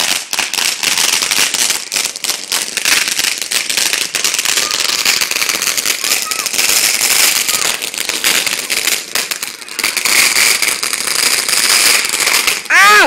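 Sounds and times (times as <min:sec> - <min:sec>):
firework fountain crackling: 0:00.0 - 0:13.0.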